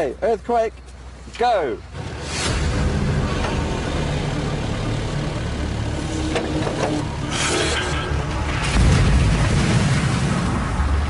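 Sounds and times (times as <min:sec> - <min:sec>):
digger diesel engine rumbling: 0:01.8 - 0:11.0.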